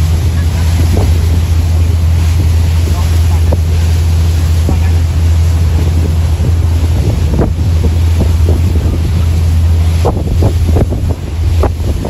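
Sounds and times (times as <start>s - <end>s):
boat engine droning: 0.0s - 12.0s
waves splashing against hull: 0.0s - 12.0s
wind buffeting microphone: 0.0s - 12.0s.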